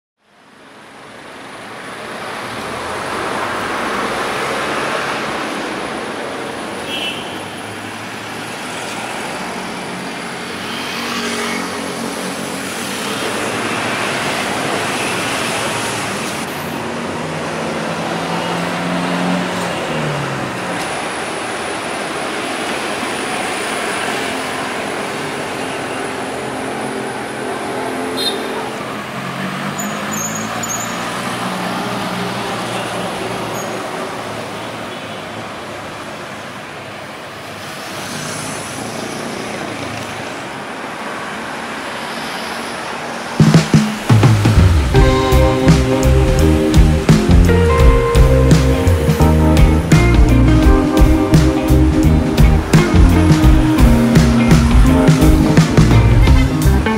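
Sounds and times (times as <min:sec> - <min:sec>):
cars and trucks passing: 0:00.2 - 0:56.9
steady road noise: 0:00.2 - 0:56.9.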